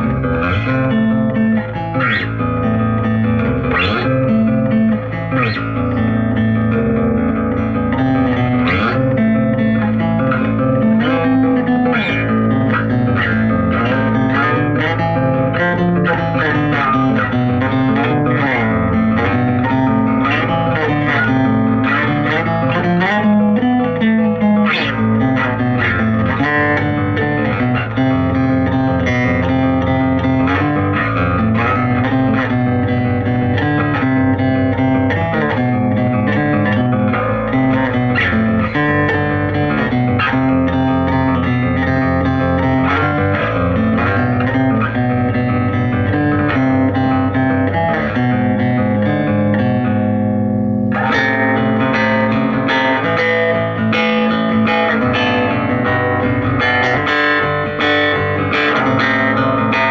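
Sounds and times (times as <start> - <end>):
electric bass guitar ballad: 0.0 - 59.9.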